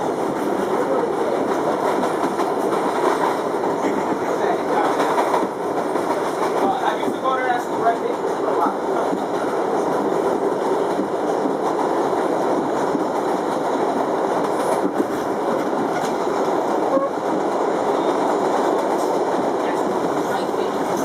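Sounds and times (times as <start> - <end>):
subway wheels rumbling on rail: 0.0 - 21.0.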